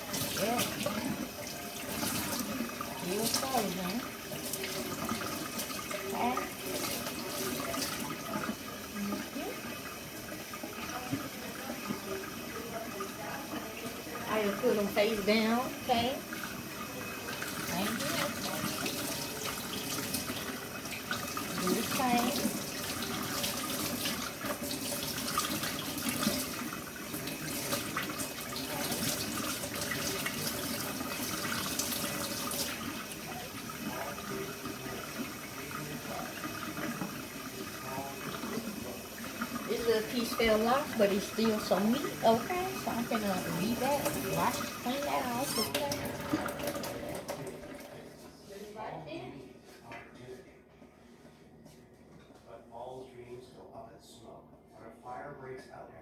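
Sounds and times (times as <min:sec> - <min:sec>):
tap running into sink: 0:00.0 - 0:48.1.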